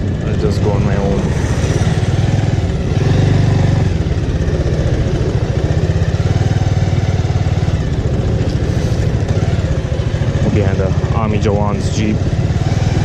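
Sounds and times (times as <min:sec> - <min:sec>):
motorcycle engine chugging: 0:00.0 - 0:13.0.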